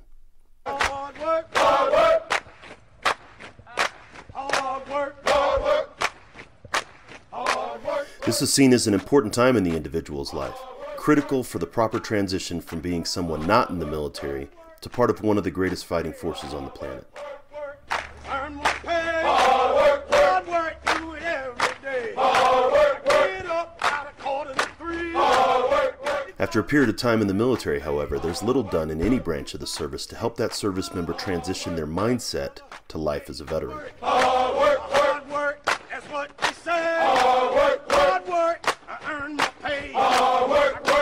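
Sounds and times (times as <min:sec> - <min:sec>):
men shouting and chanting: 0:00.7 - 0:02.3, 0:04.4 - 0:06.0, 0:07.3 - 0:12.2, 0:12.9 - 0:41.0.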